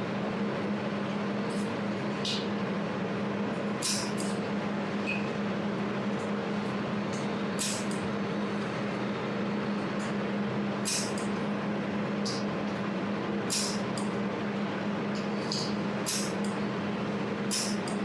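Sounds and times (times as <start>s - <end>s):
cooling system humming: 0.0s - 18.0s.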